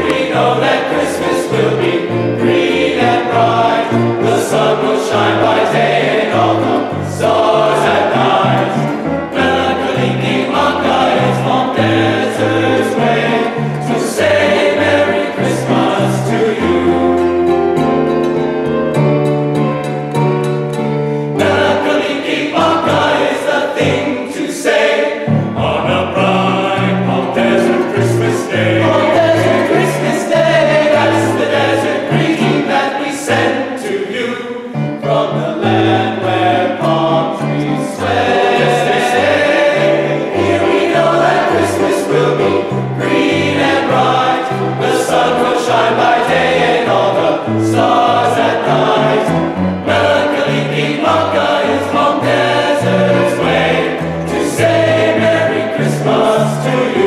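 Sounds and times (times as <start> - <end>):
men's choir singing: 0.0 - 18.2, 21.0 - 57.0.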